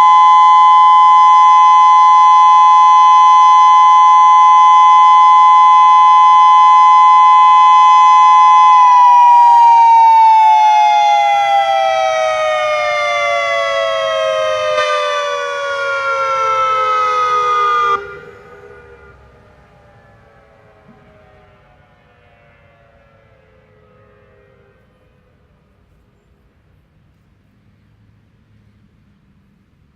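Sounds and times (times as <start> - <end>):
civil defense warning siren: 0.0 - 26.0.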